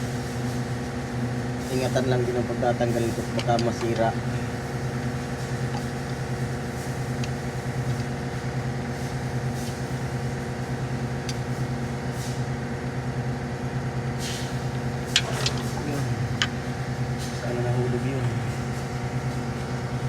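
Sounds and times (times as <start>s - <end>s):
engine idling drone: 1.0s - 20.0s.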